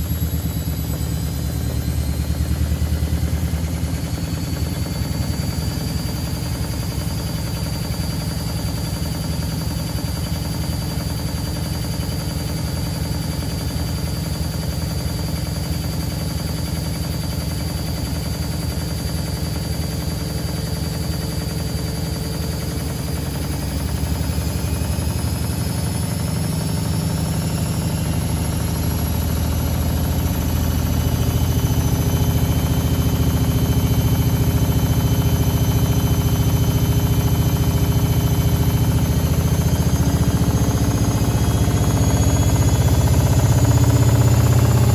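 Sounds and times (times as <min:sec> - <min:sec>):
washing machine running: 0:00.0 - 0:44.9.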